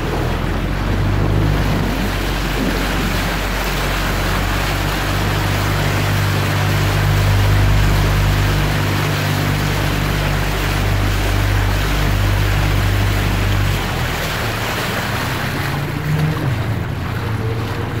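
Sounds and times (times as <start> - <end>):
outboard motor running: 0.0 - 18.0
water rushing past hull: 0.0 - 18.0.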